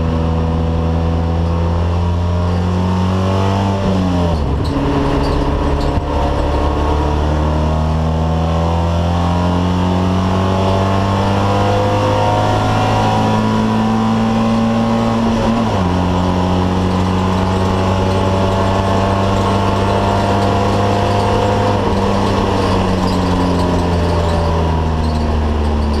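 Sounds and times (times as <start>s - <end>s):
car engine pulling under load: 3.7s - 9.1s, 10.2s - 26.0s.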